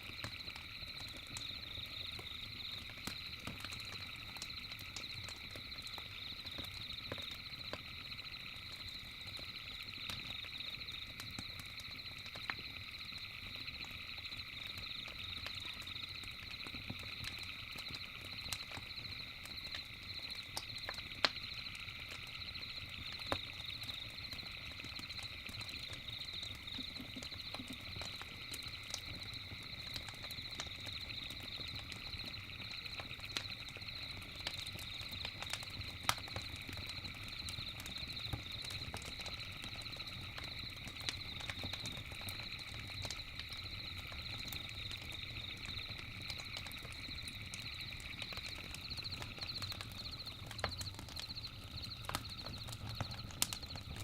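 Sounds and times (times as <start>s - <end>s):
campfire crackling and popping: 0.0s - 54.0s
night insects trilling: 0.0s - 54.0s.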